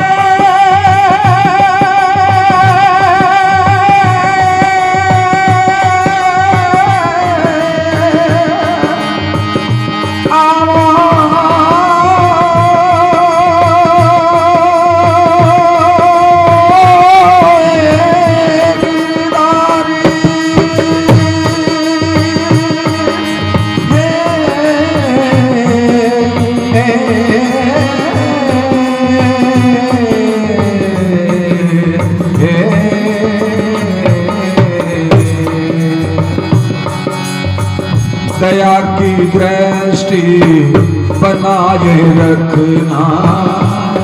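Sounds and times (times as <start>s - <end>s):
steady drum rhythm: 0.0s - 44.0s.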